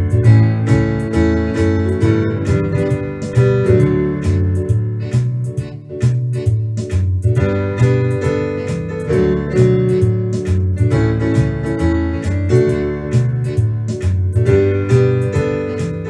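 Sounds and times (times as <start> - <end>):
bass line: 0.0 - 16.0.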